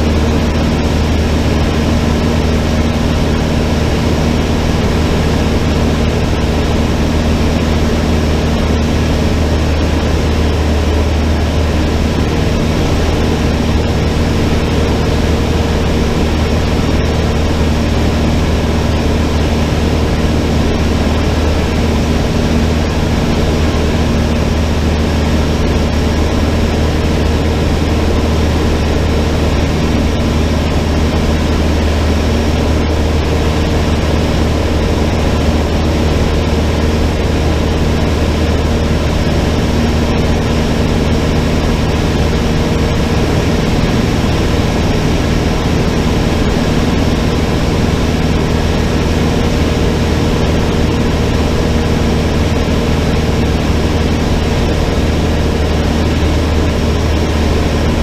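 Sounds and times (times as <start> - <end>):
small plane engine and propeller drone: 0.0 - 58.0.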